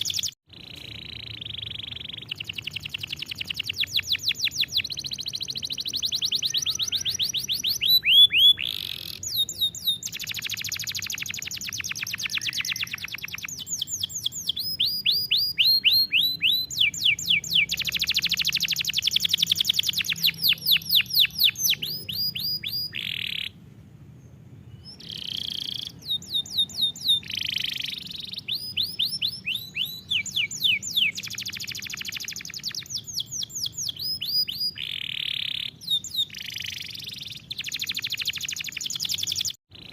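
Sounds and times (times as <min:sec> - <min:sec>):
canary singing trills: 0:00.0 - 0:23.6, 0:24.2 - 0:39.9.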